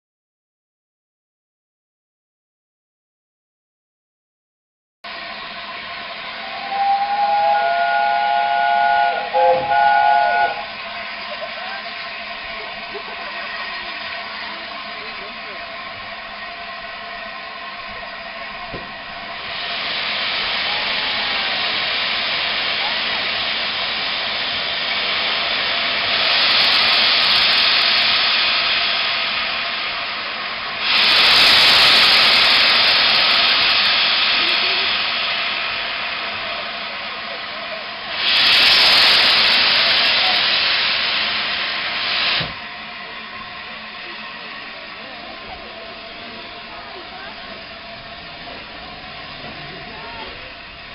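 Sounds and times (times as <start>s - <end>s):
steam locomotive hissing: 5.1s - 50.9s.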